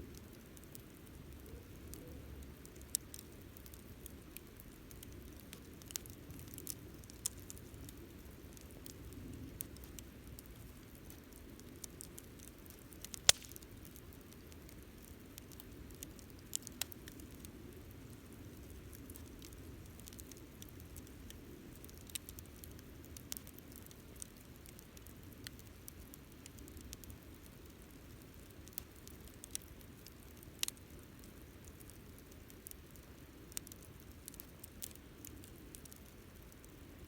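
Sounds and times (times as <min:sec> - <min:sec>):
campfire flames burning: 0:00.0 - 0:37.0
fire crackles and pops: 0:00.0 - 0:37.0.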